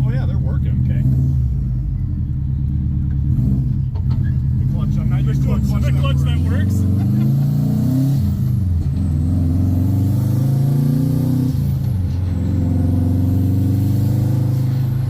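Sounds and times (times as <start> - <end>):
car engine running under load: 0.6 - 15.0.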